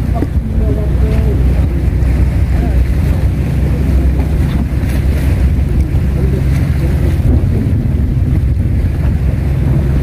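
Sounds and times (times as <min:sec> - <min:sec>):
sea: 0:00.0 - 0:10.0
wind buffeting microphone: 0:00.0 - 0:10.0.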